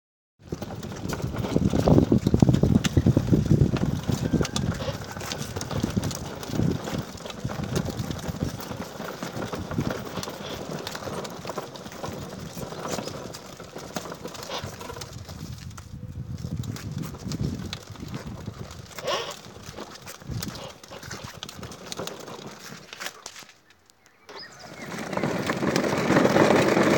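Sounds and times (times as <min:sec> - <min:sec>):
plastic toy car rattling on bricks: 0:00.4 - 0:23.5, 0:24.5 - 0:26.9.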